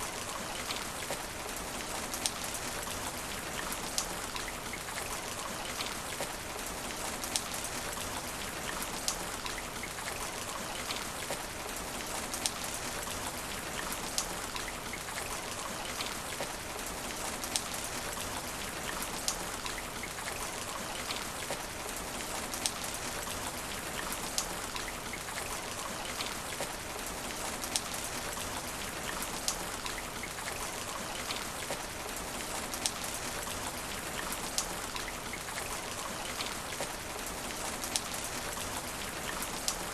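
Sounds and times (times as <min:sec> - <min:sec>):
rain falling on asphalt: 0:00.0 - 0:39.9.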